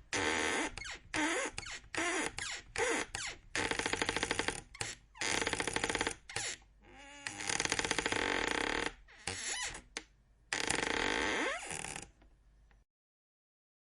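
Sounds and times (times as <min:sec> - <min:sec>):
door hinges creaking: 0:00.2 - 0:10.0, 0:10.6 - 0:12.2.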